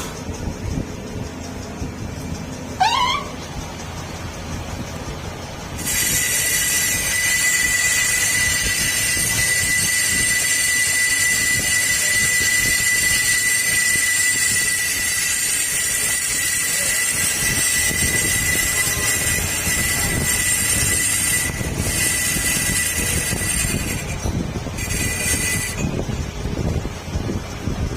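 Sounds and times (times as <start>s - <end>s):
cutting tool high whine: 1.2s - 27.9s.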